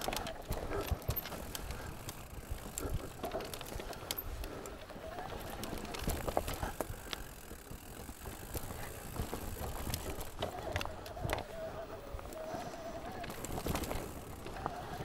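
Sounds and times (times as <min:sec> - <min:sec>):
bike clicks and rattles: 0:00.0 - 0:15.0
bike tyre rumble: 0:00.0 - 0:15.0.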